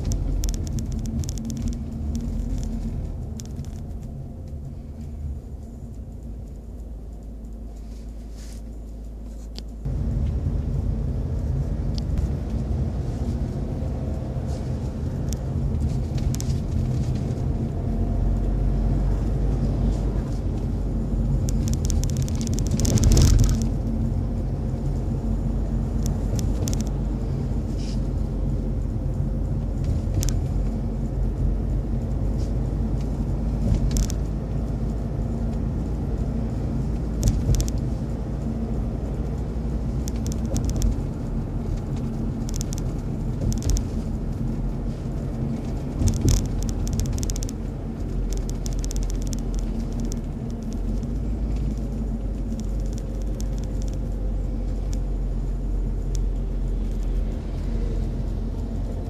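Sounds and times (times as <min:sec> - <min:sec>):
car engine and road hum: 0:00.0 - 0:59.0.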